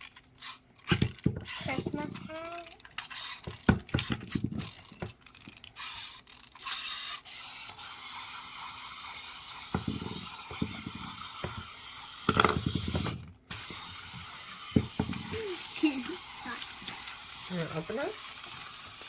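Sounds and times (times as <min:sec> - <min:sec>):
wind-up toy winding clicks: 0:00.0 - 0:19.0
clockwork spring whirring: 0:01.5 - 0:19.0.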